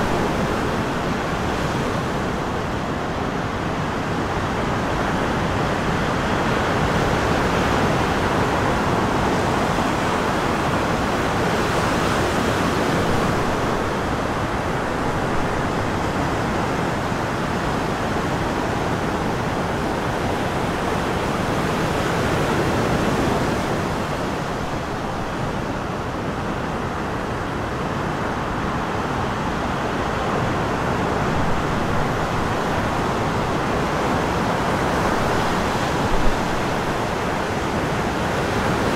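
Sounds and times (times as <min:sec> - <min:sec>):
wind: 0:00.0 - 0:38.9.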